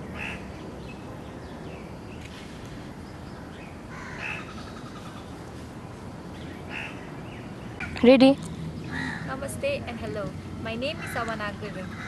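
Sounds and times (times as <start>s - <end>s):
bird calling: 0.0s - 5.5s, 6.3s - 9.8s, 10.7s - 12.0s
steady background hiss: 0.0s - 12.0s.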